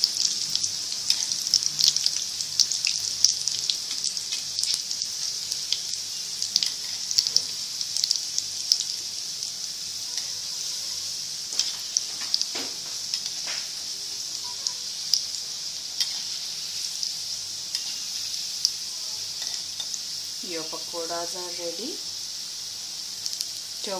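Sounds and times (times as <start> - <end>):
crackling pops of frying: 0.0 - 10.4, 11.2 - 21.4, 22.8 - 23.9
batter sizzling in hot oil: 0.0 - 23.9.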